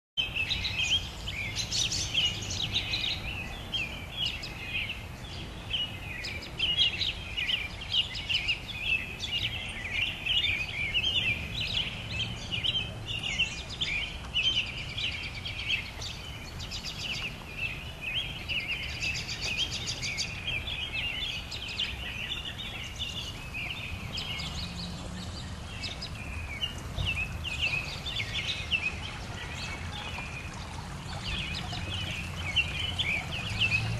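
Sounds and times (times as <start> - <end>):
songbirds chorus: 0.2 - 33.9.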